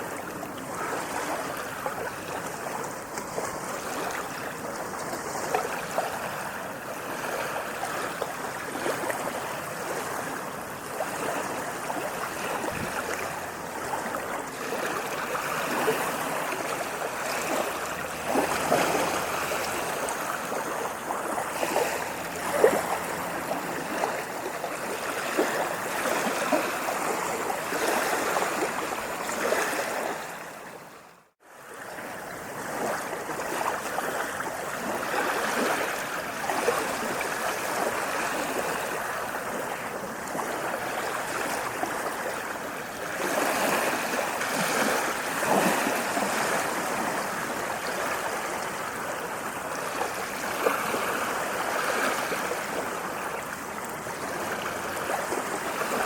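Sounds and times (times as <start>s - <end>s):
waves washing and splashing: 0.0s - 56.0s.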